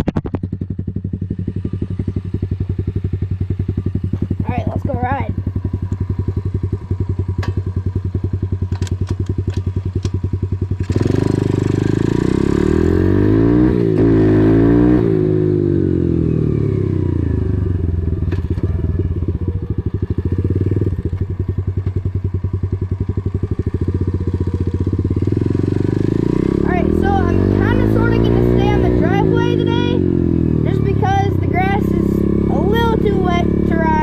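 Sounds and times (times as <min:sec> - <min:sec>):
dirt bike engine: 0:00.0 - 0:34.0.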